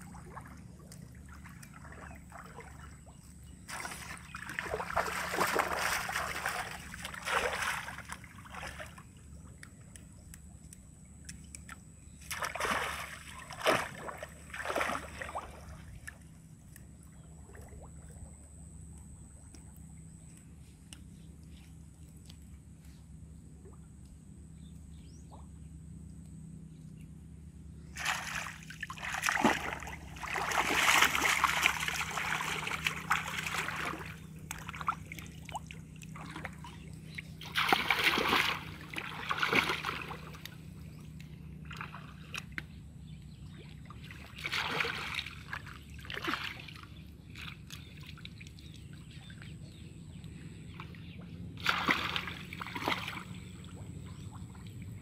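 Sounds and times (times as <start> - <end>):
water splashing and sloshing: 0.0 - 26.3, 27.8 - 55.0.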